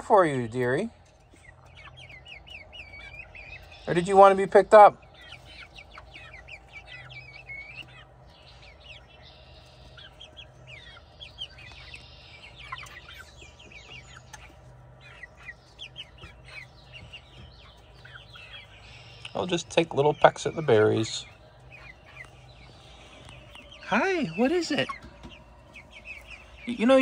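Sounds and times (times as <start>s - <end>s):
hens clucking and chirping: 0.0s - 27.0s.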